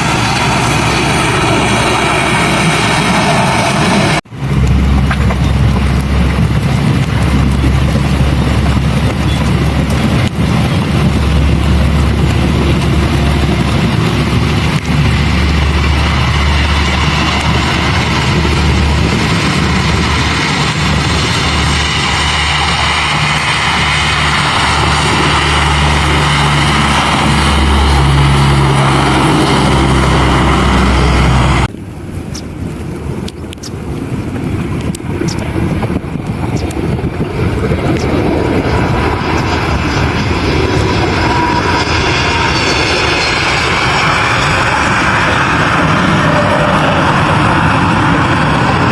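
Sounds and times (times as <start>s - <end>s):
aircraft engines roaring: 0.0s - 48.9s
low rumble: 0.0s - 48.9s.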